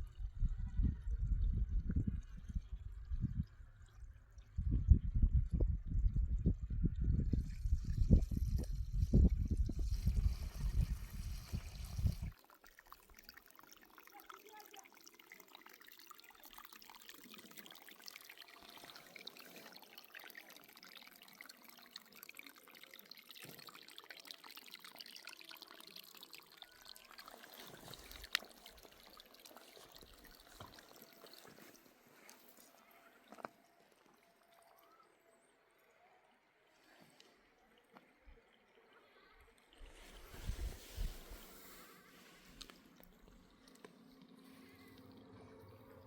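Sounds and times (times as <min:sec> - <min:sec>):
water trickling: 0:00.0 - 0:46.0.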